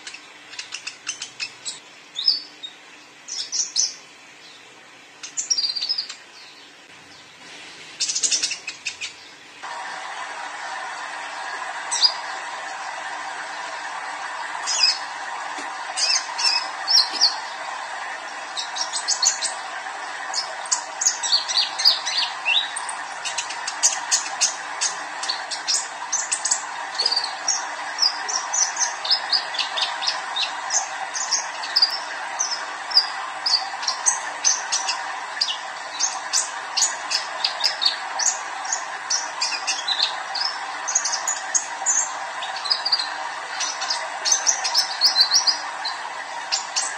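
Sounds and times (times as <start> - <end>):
bird chirping and trilling: 0.0 - 4.6, 5.2 - 7.3, 8.0 - 9.4, 14.6 - 15.1, 16.0 - 17.7, 18.5 - 19.6, 20.3 - 46.9
steady background hum: 0.0 - 46.9.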